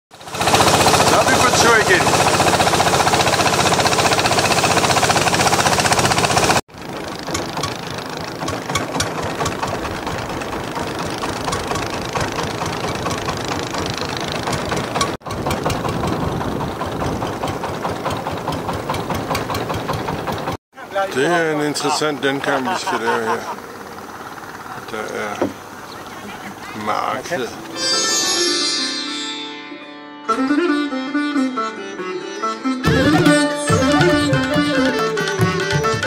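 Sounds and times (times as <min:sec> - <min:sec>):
motorboat engine pulsing: 0:00.2 - 0:27.8, 0:32.9 - 0:36.0.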